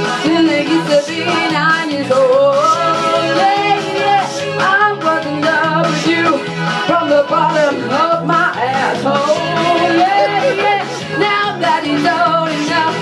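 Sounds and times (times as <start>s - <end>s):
backing track with bass beat: 0.0s - 13.0s
woman singing karaoke: 0.0s - 13.0s.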